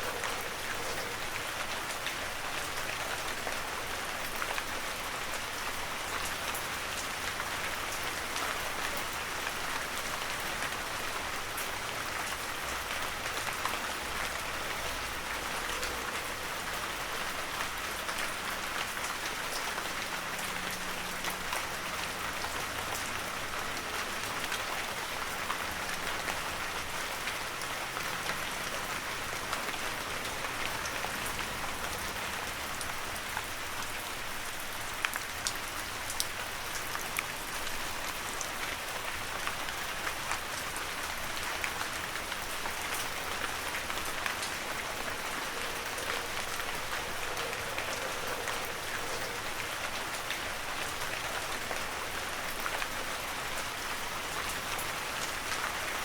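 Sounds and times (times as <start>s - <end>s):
heavy rain in a forest: 0.0s - 56.0s.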